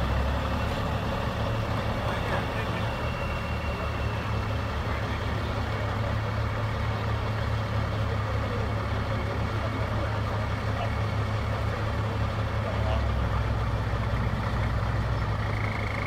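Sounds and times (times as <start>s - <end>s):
heavy diesel engines humming: 0.0s - 16.0s.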